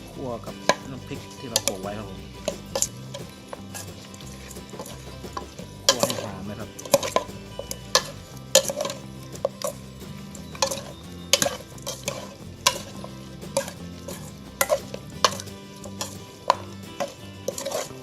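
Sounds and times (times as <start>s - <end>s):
light sizzle: 0.0s - 18.0s
spatula scraping a pan: 2.4s - 18.0s.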